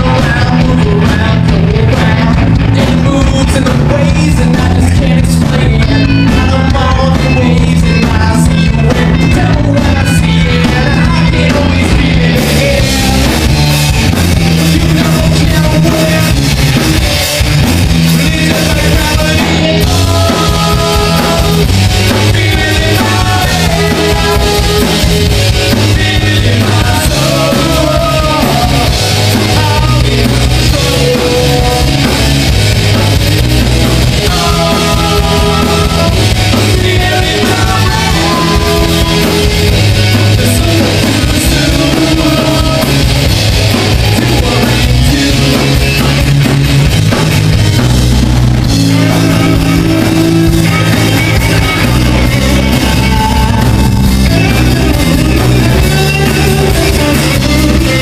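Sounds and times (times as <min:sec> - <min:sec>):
bass guitar: 0:00.0 - 0:58.0
drum kit: 0:00.0 - 0:58.0
electric and acoustic guitars: 0:00.0 - 0:58.0.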